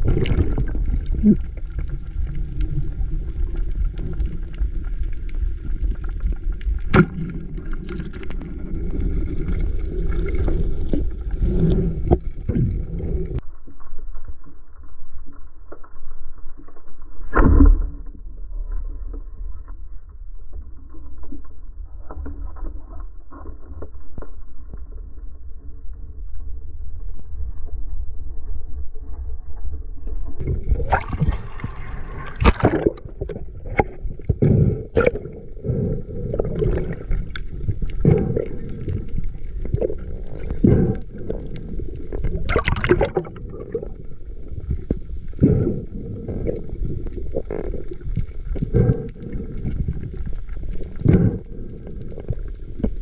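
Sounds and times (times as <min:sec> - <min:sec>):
underwater low rumble: 0:00.0 - 0:53.0.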